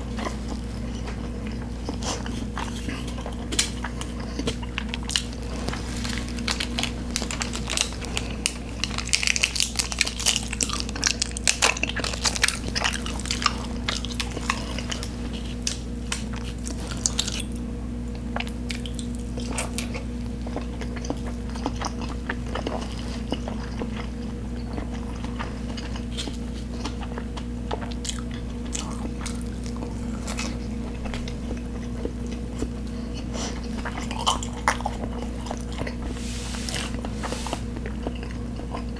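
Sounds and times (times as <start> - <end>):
person chewing food: 0.0 - 17.6, 18.3 - 38.9
steady low hum: 0.0 - 38.9.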